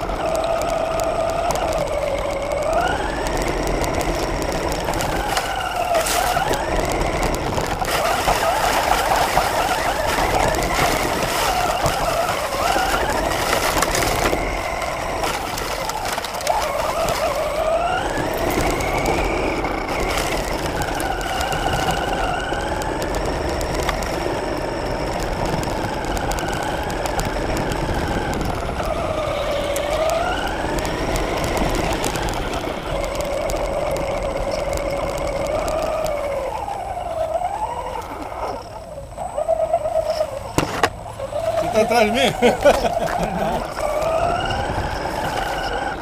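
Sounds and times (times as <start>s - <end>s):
chassis ticks and rattles: 0.0s - 46.0s
toy car motor whine: 0.0s - 46.0s.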